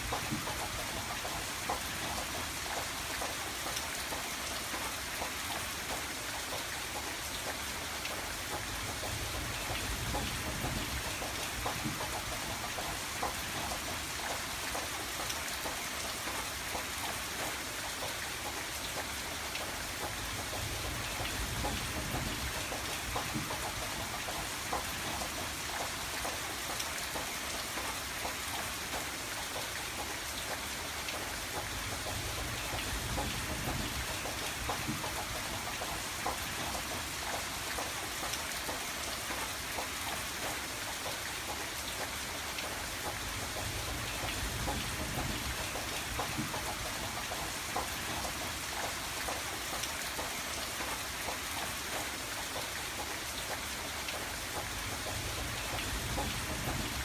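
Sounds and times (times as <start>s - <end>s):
rain pattering on window glass: 0.0s - 57.0s.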